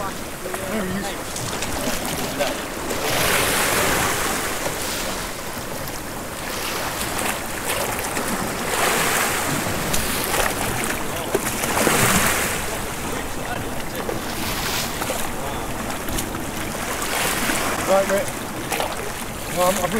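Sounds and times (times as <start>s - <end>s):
surf breaking on rocks: 0.0s - 19.9s.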